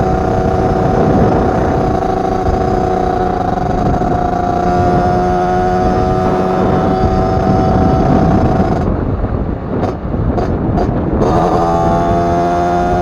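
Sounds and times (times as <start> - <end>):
two-stroke engine running: 0.0 - 13.0.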